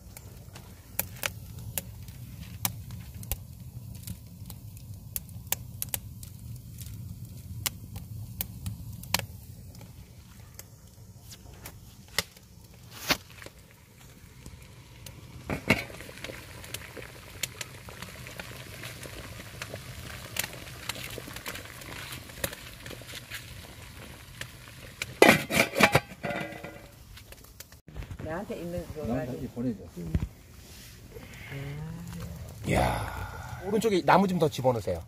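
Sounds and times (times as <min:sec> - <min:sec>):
stew bubbling in a pot: 0:00.0 - 0:27.8, 0:31.0 - 0:35.0
burning wood crackling: 0:00.0 - 0:35.0.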